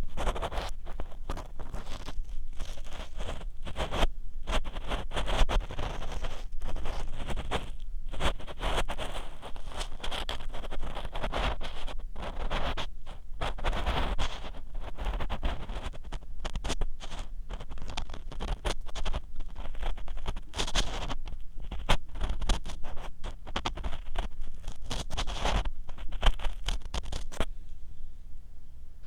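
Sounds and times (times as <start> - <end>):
ear pick scratching microphone: 0.0 - 27.5.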